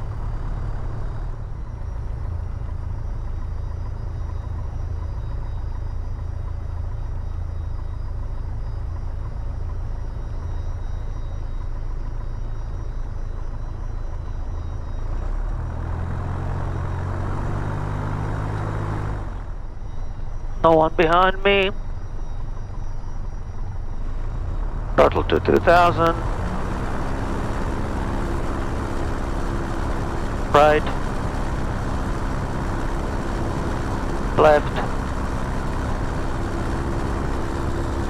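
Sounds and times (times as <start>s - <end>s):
light aircraft engine droning: 0.0s - 38.0s.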